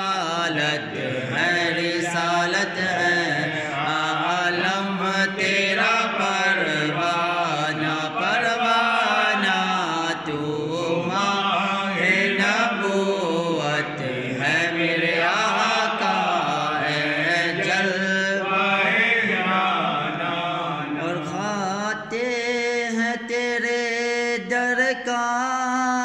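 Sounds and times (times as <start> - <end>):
man reciting melodically: 0.0 - 26.0.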